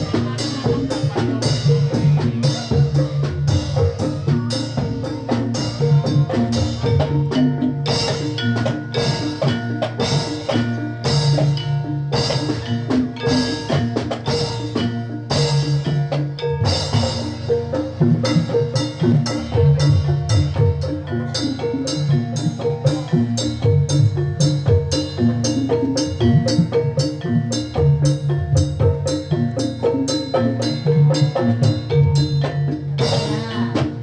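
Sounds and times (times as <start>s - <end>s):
drums: 0.0s - 34.0s
gamelan ensemble playing: 0.0s - 34.0s
struck metal-keyed instruments: 0.0s - 34.0s.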